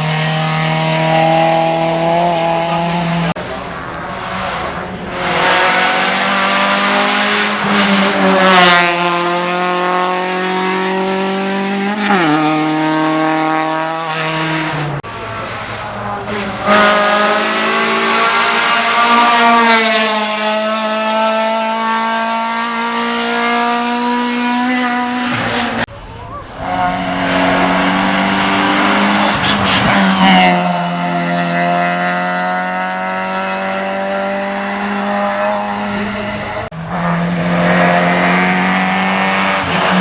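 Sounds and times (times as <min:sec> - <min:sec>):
race car engine at high revs: 0:00.0 - 0:40.0.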